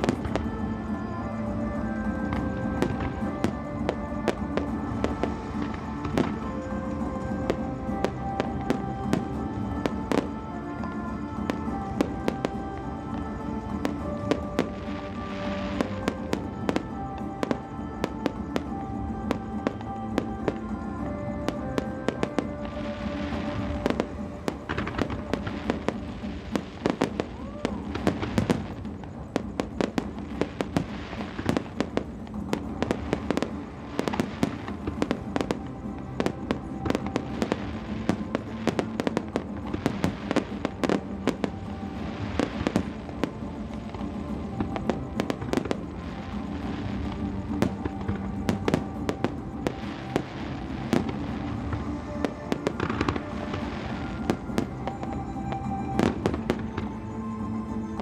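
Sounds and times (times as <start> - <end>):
fireworks bangs and crackles: 0.0 - 58.0
music playing: 0.0 - 58.0.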